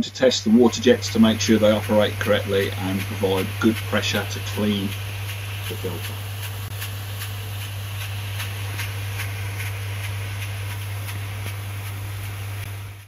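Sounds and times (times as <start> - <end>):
steady low hum: 0.0 - 13.0
water spray hissing: 0.0 - 13.0
regular ticking: 0.4 - 12.4.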